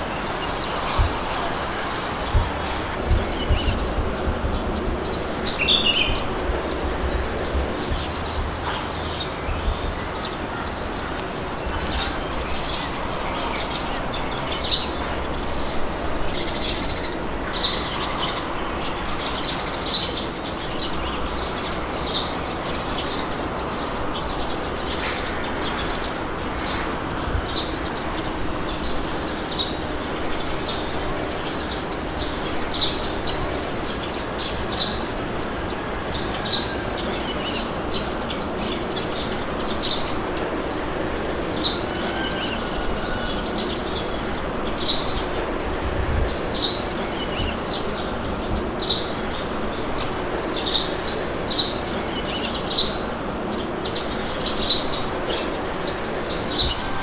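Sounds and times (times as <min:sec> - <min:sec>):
birds chirping: 0:00.0 - 0:57.0
wind blowing: 0:00.0 - 0:57.0.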